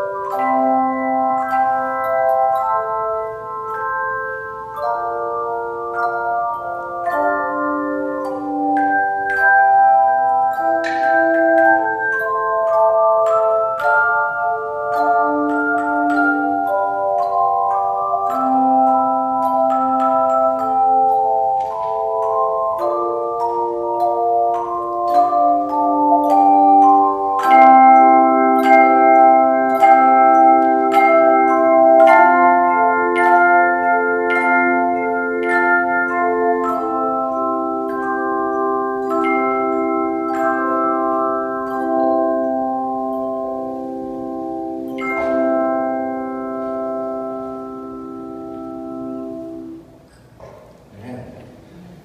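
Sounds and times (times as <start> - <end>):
handbell choir ringing chords: 0.0 - 50.5
sustained low bell: 0.0 - 51.2.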